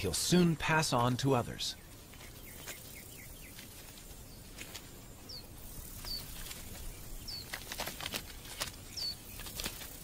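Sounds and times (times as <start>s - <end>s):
distant bird chirping: 0.0s - 10.0s
faint outdoor ambience: 0.0s - 10.0s.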